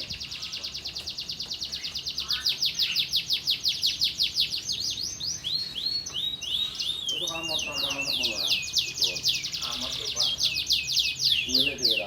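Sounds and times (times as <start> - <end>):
songbird trilling: 0.0 - 12.0.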